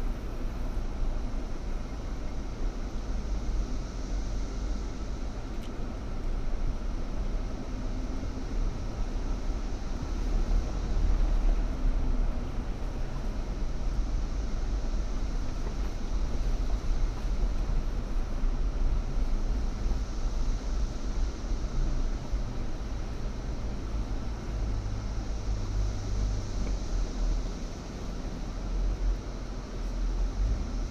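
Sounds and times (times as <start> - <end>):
off-road vehicle engine rumbling: 0.0 - 30.9.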